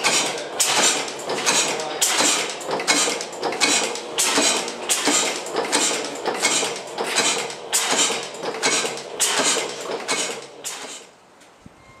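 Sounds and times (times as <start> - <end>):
gas engine rhythmic metallic clatter: 0.0 - 11.2.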